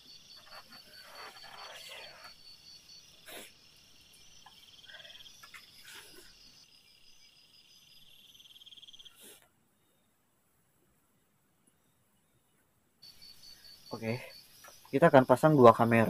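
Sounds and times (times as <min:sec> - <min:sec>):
night insects trilling: 0:00.0 - 0:10.1, 0:13.0 - 0:16.0.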